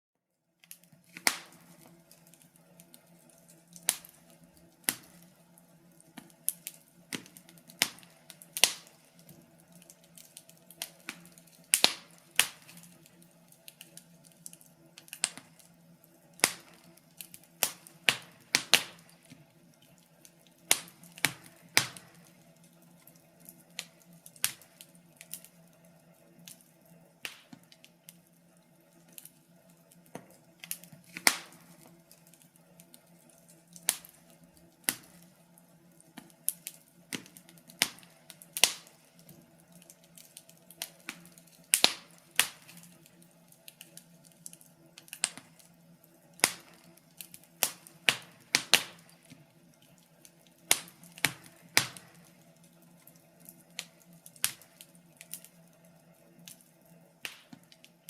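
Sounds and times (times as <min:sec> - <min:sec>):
wood fire crackling: 0:00.6 - 0:58.0.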